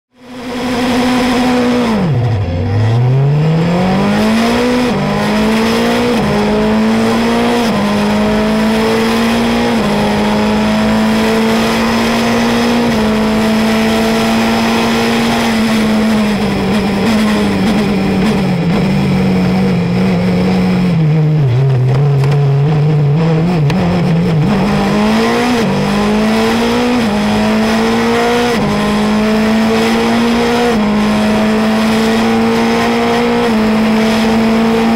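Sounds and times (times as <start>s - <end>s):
race car engine revving: 0.2s - 34.9s.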